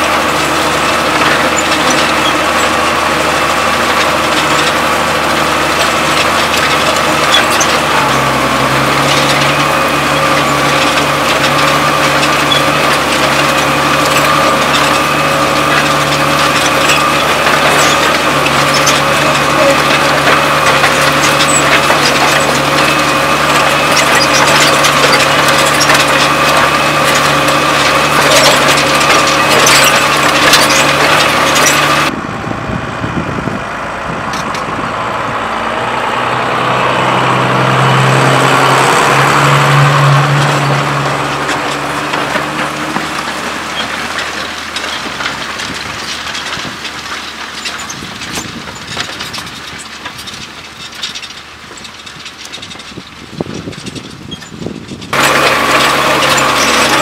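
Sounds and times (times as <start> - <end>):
plough and soil crackling: 0.0 - 32.2, 35.7 - 57.0
tractor diesel engine droning: 0.0 - 57.0.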